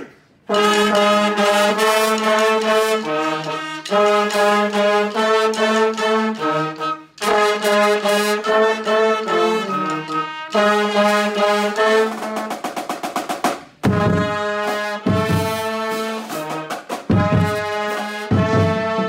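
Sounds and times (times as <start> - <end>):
brass band playing rhythmic phrase: 0.0 - 19.0.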